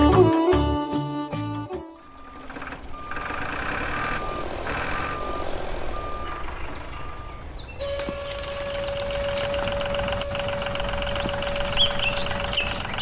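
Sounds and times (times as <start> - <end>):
reversing alarm beeping: 2.0 - 13.0.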